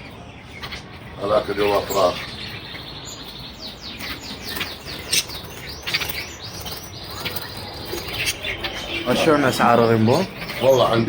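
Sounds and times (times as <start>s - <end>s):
small birds chirping chorus: 0.0s - 11.0s.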